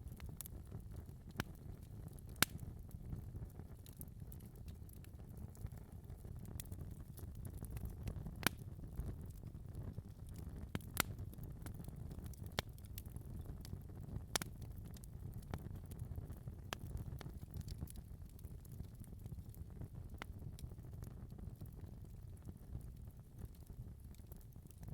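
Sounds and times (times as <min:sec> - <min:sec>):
wood fire crackling in a fireplace: 0:00.0 - 0:24.9.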